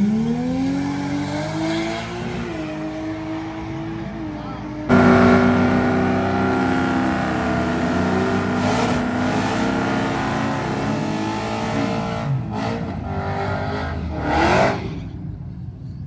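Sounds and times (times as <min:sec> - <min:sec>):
drag racing car engine: 0:00.0 - 0:15.8.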